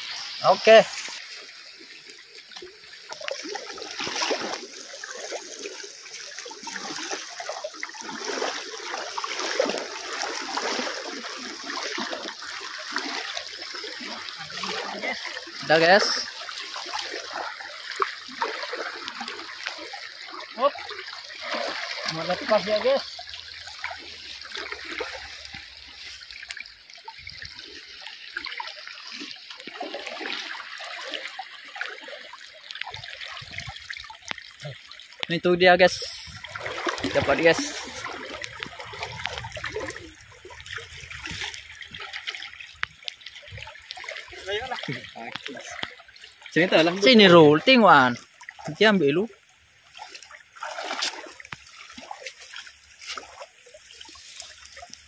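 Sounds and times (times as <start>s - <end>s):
water splashing around legs: 0.0s - 55.0s.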